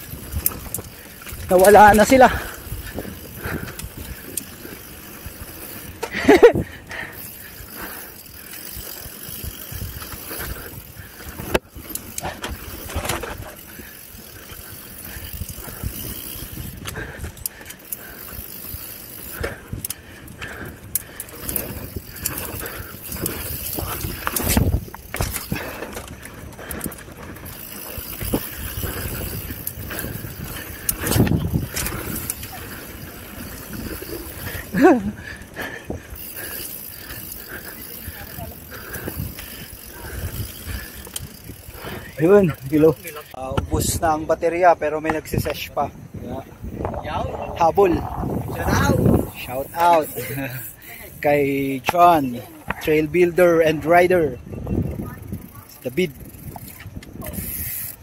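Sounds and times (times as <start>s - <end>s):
bike rattling and knocking: 0.0s - 44.1s, 46.8s - 54.1s, 54.7s - 58.0s
tyre and wind noise: 0.0s - 58.0s.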